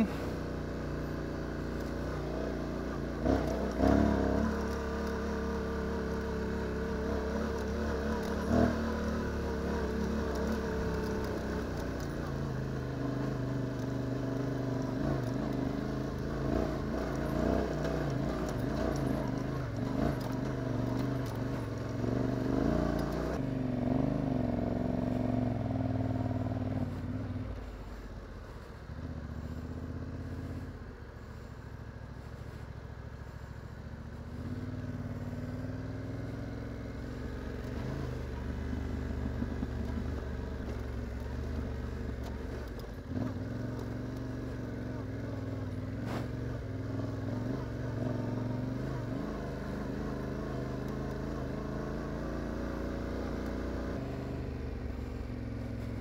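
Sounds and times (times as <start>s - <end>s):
motorcycle engine on dirt track: 0.0s - 56.0s.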